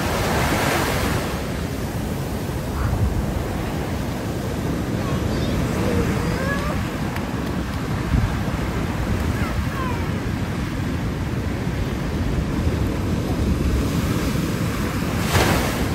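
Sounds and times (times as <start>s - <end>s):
ocean surf breaking on rocks: 0.0s - 15.9s
wind buffeting microphone: 0.0s - 15.9s.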